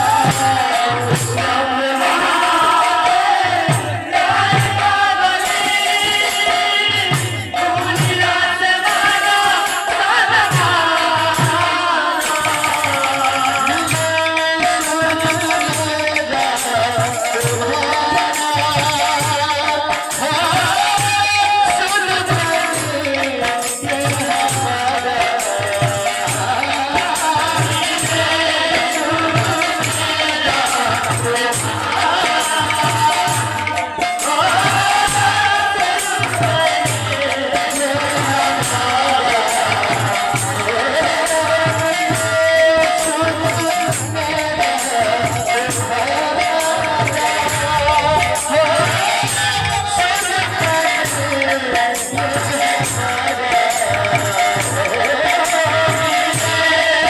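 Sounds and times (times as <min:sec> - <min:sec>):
man chanting through a microphone: 0:00.0 - 0:57.0.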